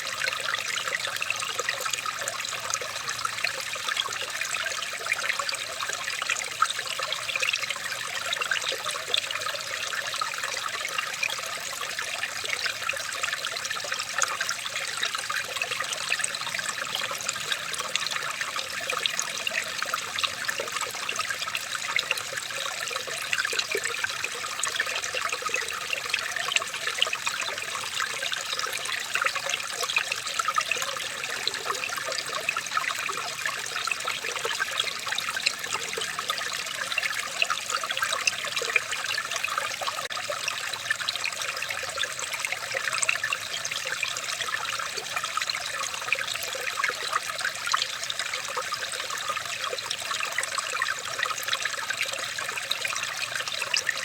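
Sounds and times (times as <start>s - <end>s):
water babbling over stones: 0.0s - 54.0s.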